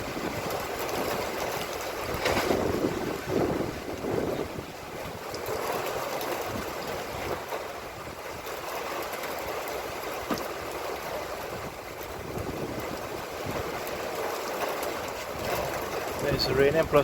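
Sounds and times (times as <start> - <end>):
raindrops ticking: 0.0 - 2.3, 3.0 - 17.0
gusting wind: 0.0 - 17.0
heavy rain: 0.0 - 17.0.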